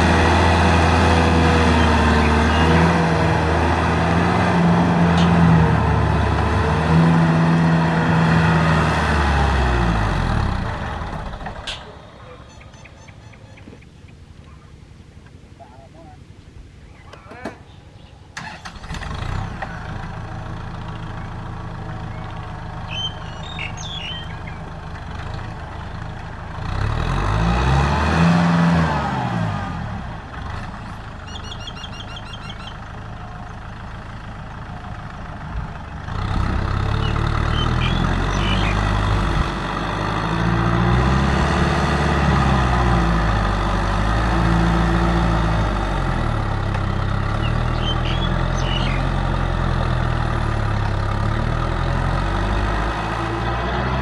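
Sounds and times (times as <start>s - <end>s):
tractor diesel engine under load: 0.0s - 15.2s, 18.0s - 54.0s.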